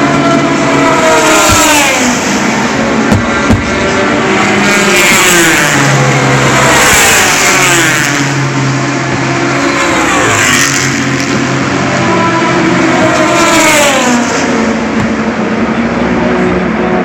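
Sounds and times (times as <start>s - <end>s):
race cars passing at high revs: 0.0s - 17.0s.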